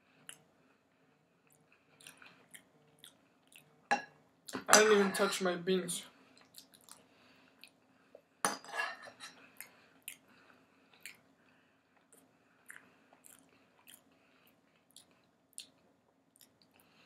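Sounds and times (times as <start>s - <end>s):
soft chewing: 0.0s - 4.6s, 6.2s - 8.4s, 9.0s - 17.0s.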